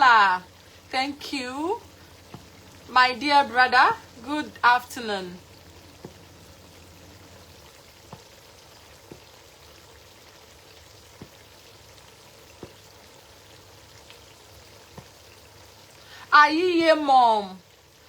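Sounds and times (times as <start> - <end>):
stew simmering with soft pops: 0.0 - 18.0.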